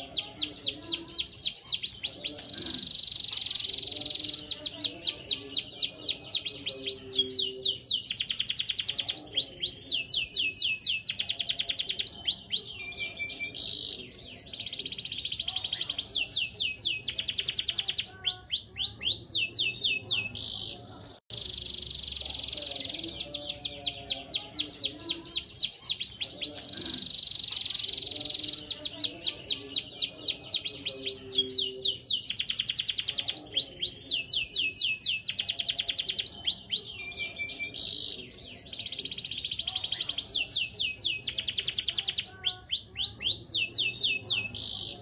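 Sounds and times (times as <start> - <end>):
canary singing: 0.0 - 45.0.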